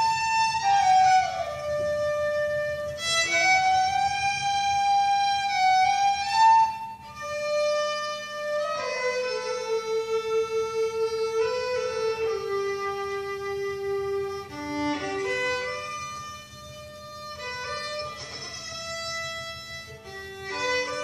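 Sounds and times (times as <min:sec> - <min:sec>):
solo fiddle playing slow tune: 0:00.0 - 0:21.0.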